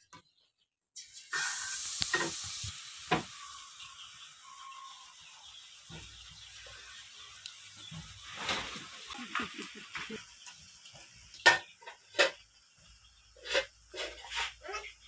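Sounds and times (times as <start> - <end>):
batter sizzling in hot oil: 1.0 - 15.0.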